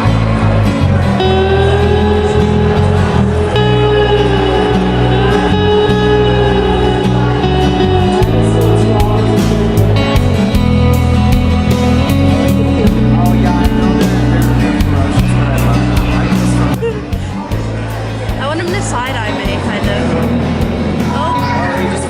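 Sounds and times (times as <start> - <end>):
song with guitar and bass: 0.0 - 22.0.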